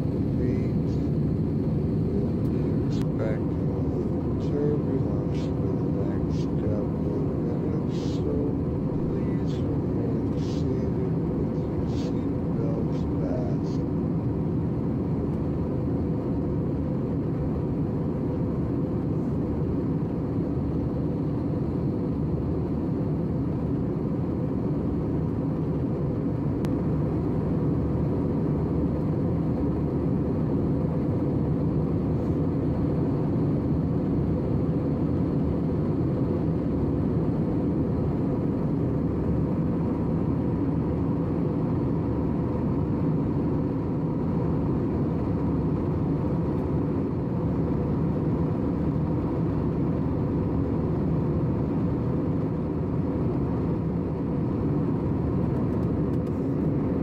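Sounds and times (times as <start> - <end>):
faint steady hum: 0.0 - 57.0
jet engines and rushing air: 0.0 - 57.0.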